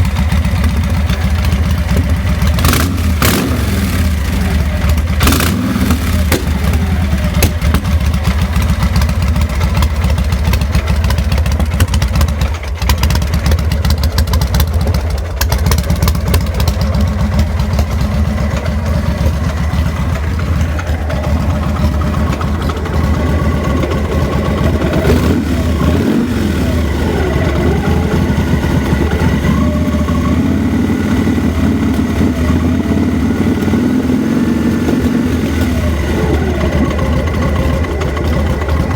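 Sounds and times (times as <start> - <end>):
motorcycle engine idling roughly: 0.0 - 38.9.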